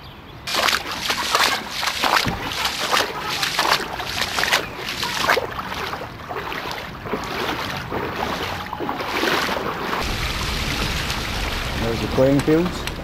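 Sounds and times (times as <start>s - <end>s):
feet sloshing through shallow water: 0.5s - 11.7s.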